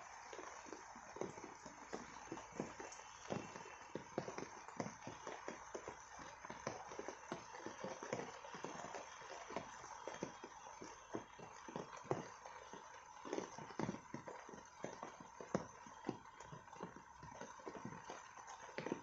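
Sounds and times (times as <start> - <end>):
rain hissing: 0.0 - 19.0
raindrops tapping on leaves: 0.0 - 19.0.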